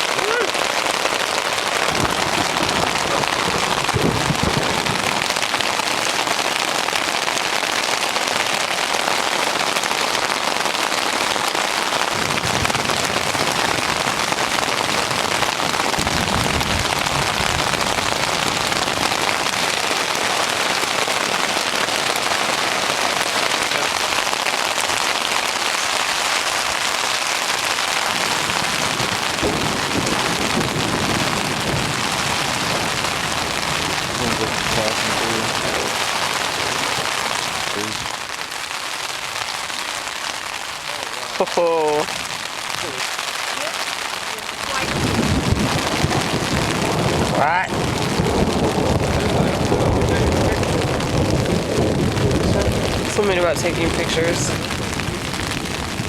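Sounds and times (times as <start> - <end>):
low thunder rumbles: 0.0 - 7.3, 11.6 - 38.3, 44.4 - 56.0
heavy rain falling: 0.0 - 56.0.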